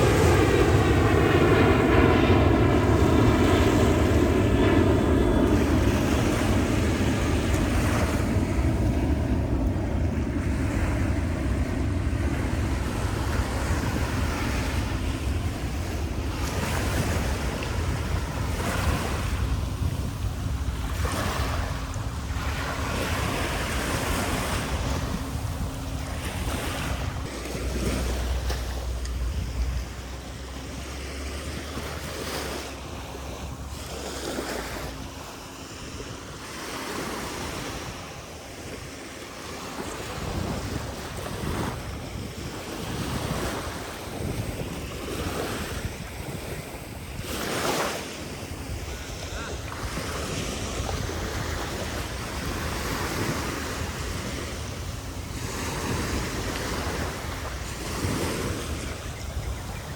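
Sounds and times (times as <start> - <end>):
waves breaking on beach: 0.0 - 59.9
wind buffeting microphone: 0.0 - 59.9.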